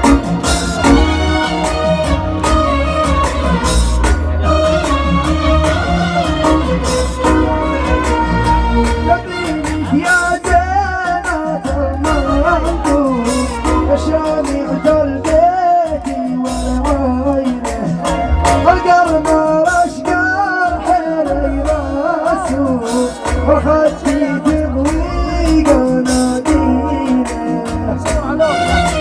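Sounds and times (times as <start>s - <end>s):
clap-like percussion: 0.0s - 20.2s, 22.4s - 29.0s
man singing: 0.0s - 29.0s
pulsing bass beat: 0.0s - 29.0s.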